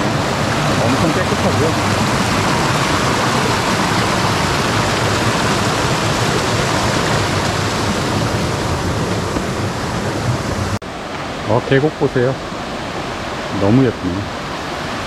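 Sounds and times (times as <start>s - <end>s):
stream water gushing over rocks: 0.0s - 15.0s.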